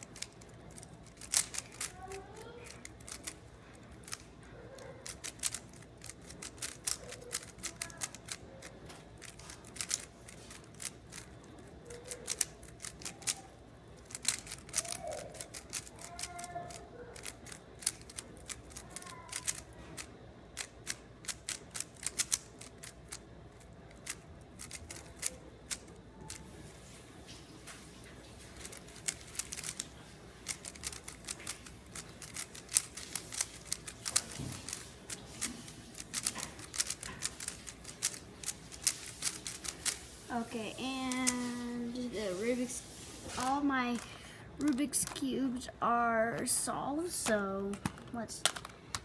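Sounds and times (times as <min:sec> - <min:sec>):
puzzle cube plastic clacking: 0:00.0 - 0:26.5, 0:27.8 - 0:40.0, 0:46.4 - 0:49.0.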